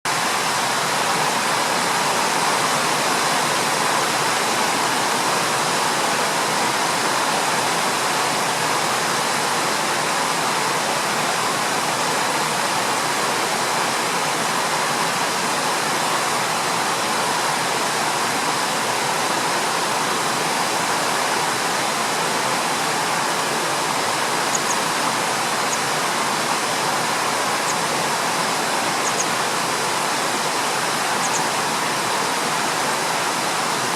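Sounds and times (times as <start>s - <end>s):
flowing water rushing: 0.1s - 33.9s.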